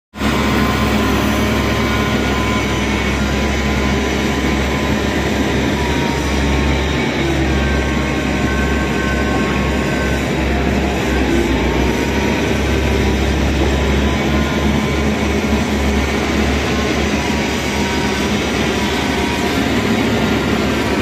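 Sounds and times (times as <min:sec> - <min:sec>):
motor grader diesel engine: 0:00.1 - 0:21.0
dump truck engine: 0:00.2 - 0:21.0.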